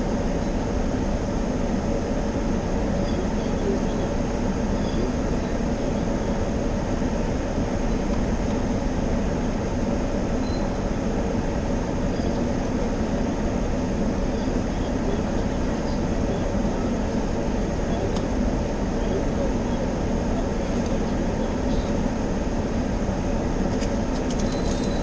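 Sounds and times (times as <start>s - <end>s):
car wash rumble and hiss: 0.0s - 25.0s.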